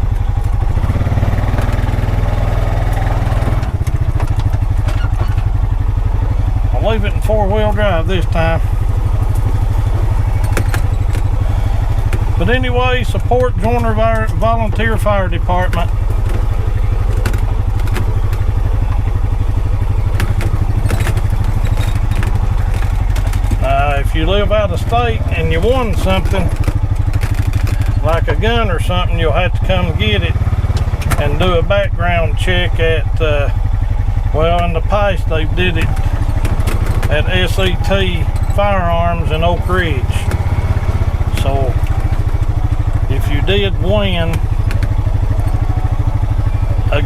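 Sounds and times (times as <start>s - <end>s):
engine running with pulsing beat: 0.0s - 47.0s.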